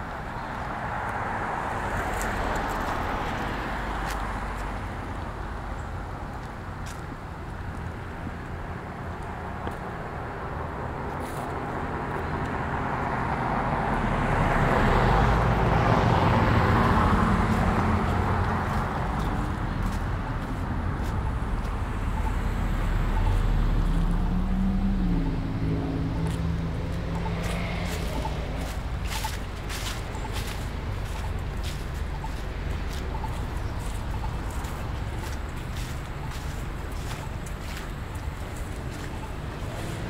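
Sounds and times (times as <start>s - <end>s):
cars passing: 0.0s - 40.0s.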